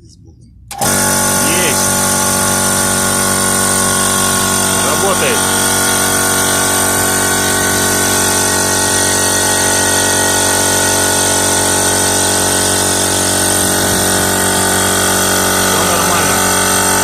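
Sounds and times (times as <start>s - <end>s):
air compressor motor running: 0.7s - 17.0s.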